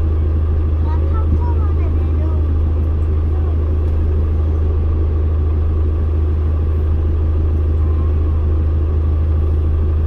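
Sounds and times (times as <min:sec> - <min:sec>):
engine and road rumble in vehicle: 0:00.0 - 0:10.0.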